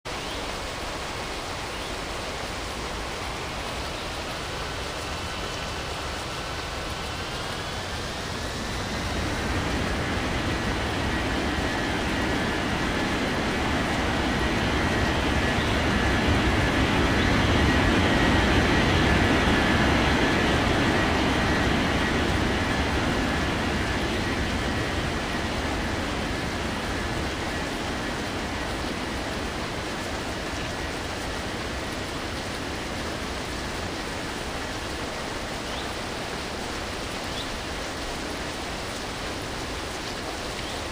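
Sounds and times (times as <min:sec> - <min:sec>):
heavy rain: 0:00.0 - 0:40.9
faint high whine: 0:00.1 - 0:40.9
jet engines rushing: 0:00.2 - 0:40.9.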